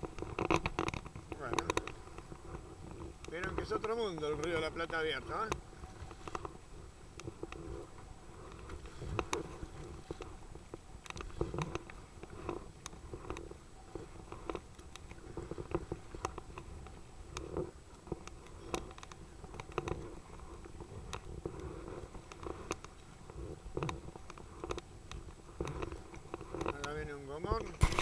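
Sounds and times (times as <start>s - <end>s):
waves slapping kayak hull: 0.0s - 28.0s.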